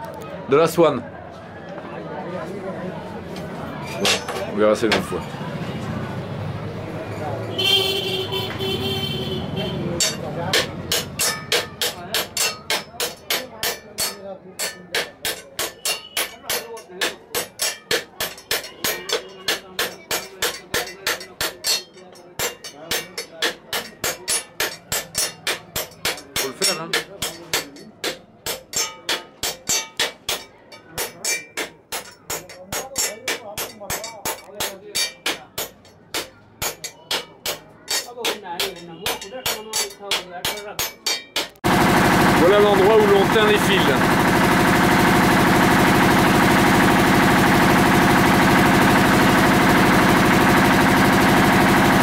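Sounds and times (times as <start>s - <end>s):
weaving loom clattering: 9.9s - 52.0s.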